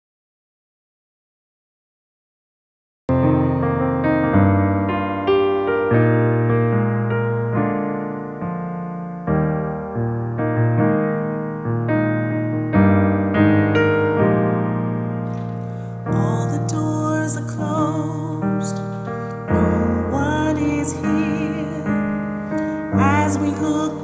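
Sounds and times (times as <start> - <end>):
slow piano chords: 3.1 - 24.0.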